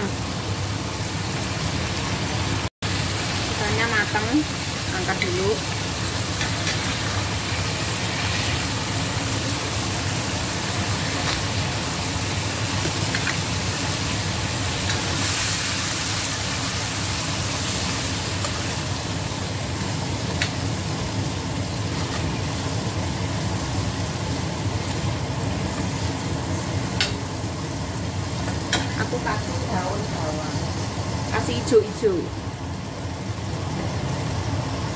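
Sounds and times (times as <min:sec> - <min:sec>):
fish frying in oil: 0:00.0 - 0:34.9.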